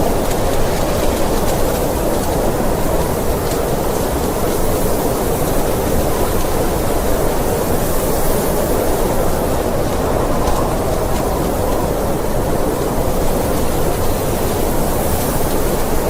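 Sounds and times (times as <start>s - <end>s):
blizzard wind rushing: 0.0s - 16.0s.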